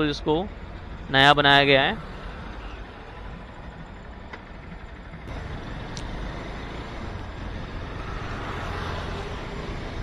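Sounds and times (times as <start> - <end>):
vehicle hum: 0.0 - 10.0
wind and road noise: 0.0 - 10.0.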